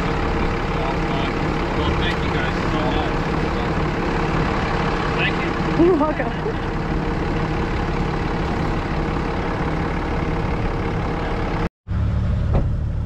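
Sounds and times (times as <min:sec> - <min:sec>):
heavy vehicle engine idling: 0:00.0 - 0:13.0.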